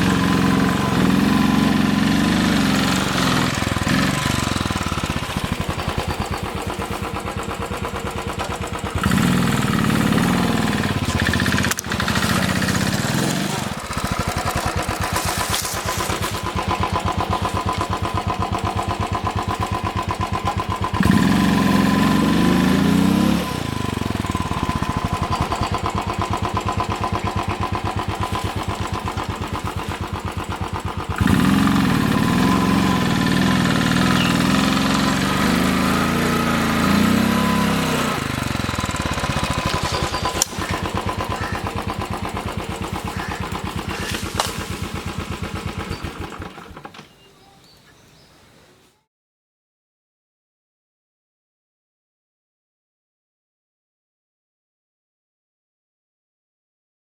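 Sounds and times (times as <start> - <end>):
motorcycle engine revving: 0.0 - 47.3.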